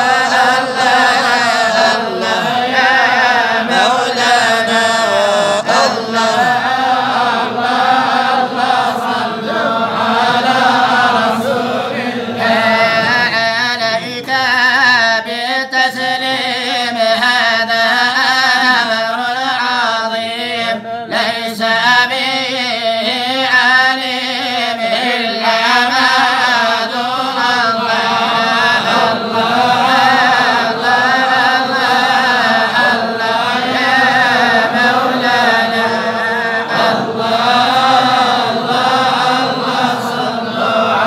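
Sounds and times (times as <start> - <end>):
group of men chanting: 0.0 - 41.0.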